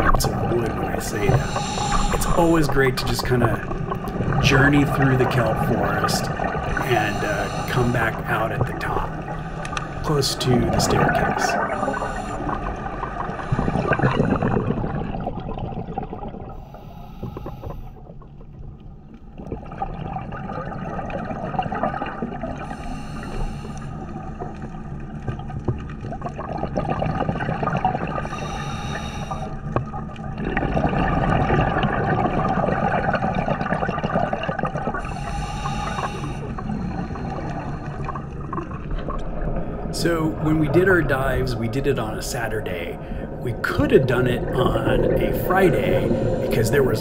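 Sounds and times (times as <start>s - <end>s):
scuba exhaust bubbles: 0.0s - 47.0s
underwater water rush: 0.0s - 47.0s.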